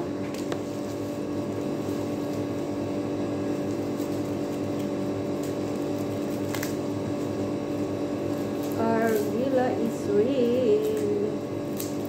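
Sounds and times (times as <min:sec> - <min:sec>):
machine hum: 0:00.0 - 0:12.0
dry leaves crackling: 0:00.2 - 0:12.0.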